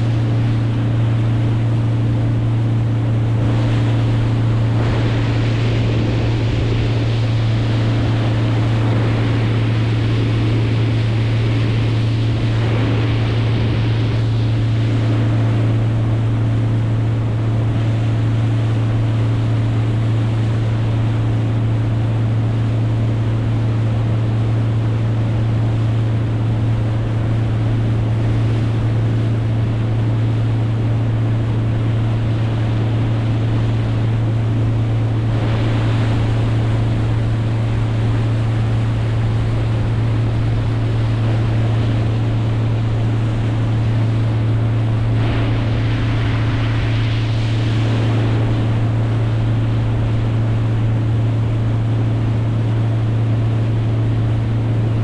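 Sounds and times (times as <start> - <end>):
boat motor droning: 0.0 - 55.0
water noise: 0.0 - 55.0
wind: 0.0 - 55.0.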